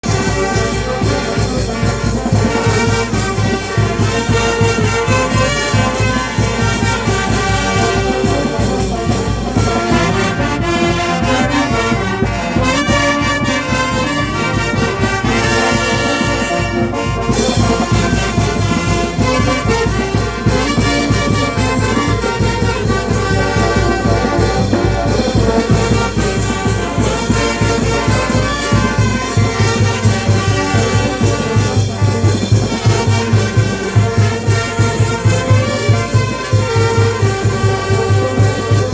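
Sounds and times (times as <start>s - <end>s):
brass band playing: 0.0s - 38.9s
low drum beat: 0.0s - 38.9s.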